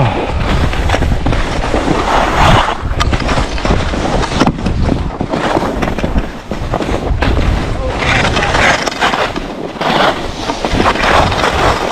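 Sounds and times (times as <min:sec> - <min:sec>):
wind rumbling on microphone: 0:00.0 - 0:11.9
skis scraping over snow: 0:00.1 - 0:11.9.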